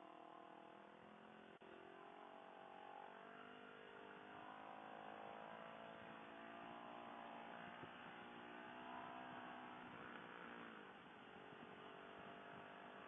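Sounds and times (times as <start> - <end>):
faint motorcycle engine running: 0.0 - 13.0.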